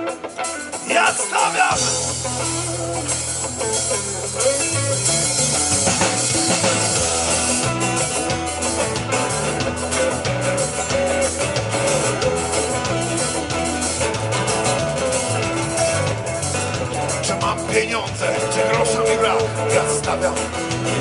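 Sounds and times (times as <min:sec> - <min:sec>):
bass guitar: 0:00.0 - 0:21.0
drum kit: 0:00.0 - 0:21.0
guitars strumming: 0:00.0 - 0:21.0.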